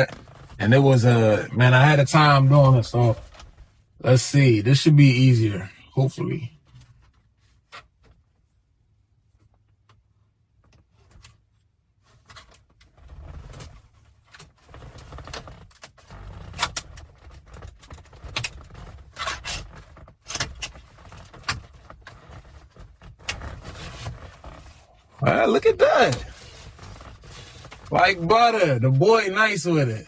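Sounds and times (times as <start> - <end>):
radio pulled from dash rattling: 0.0 - 7.0, 12.2 - 30.0.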